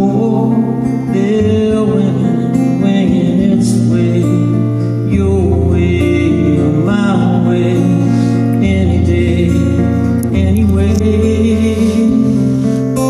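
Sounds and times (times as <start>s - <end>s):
man singing: 0.0s - 13.0s
strummed acoustic guitar: 0.0s - 13.0s.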